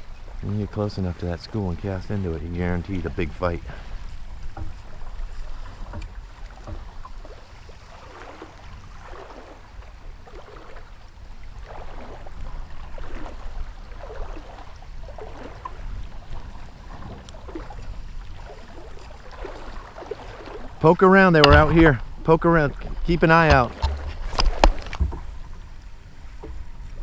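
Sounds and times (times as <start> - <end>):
small waves lapping against hull: 0.0 - 27.0.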